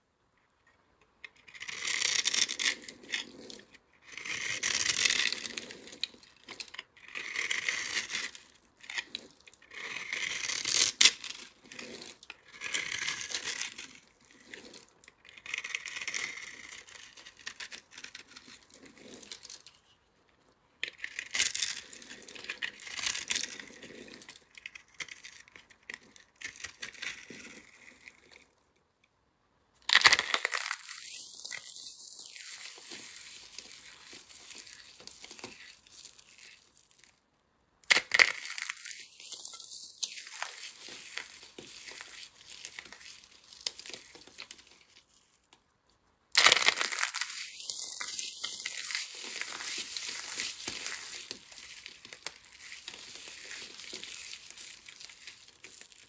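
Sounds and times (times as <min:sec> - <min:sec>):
soap shells crackling when crushed: 0:01.3 - 0:19.8, 0:20.8 - 0:28.6, 0:29.8 - 0:45.6, 0:46.3 - 0:56.0.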